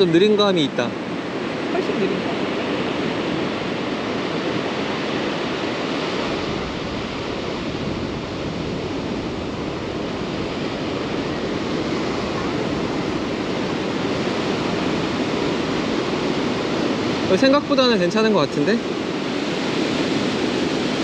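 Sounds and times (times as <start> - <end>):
ocean surf on beach: 0.0 - 21.0
wind on microphone: 0.0 - 21.0.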